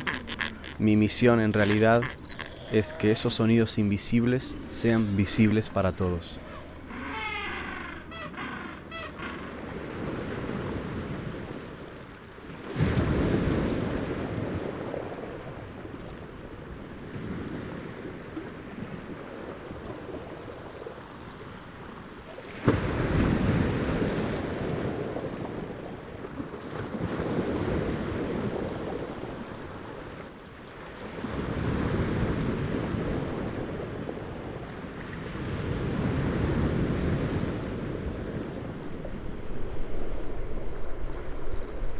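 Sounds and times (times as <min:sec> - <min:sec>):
ocean waves breaking on shore: 0:00.0 - 0:41.9
wind: 0:00.0 - 0:41.9.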